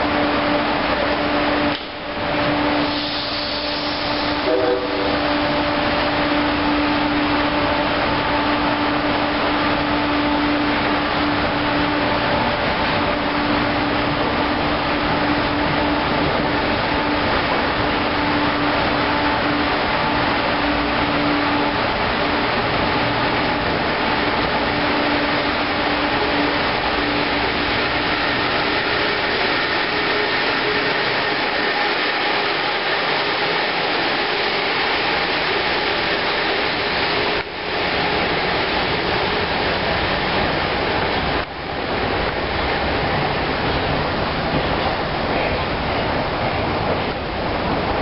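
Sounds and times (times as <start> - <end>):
train passing at speed: 0.0 - 48.0.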